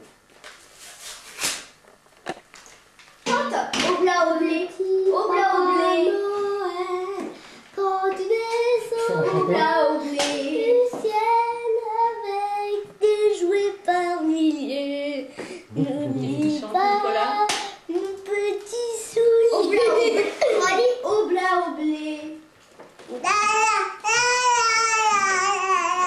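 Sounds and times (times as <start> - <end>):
child singing: 3.8 - 22.5, 23.2 - 26.0.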